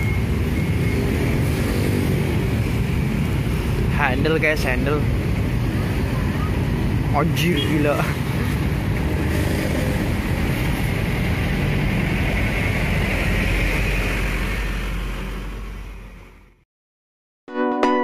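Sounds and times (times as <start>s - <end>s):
motorcycle engines: 0.0s - 16.1s
road traffic rumble: 0.0s - 16.6s.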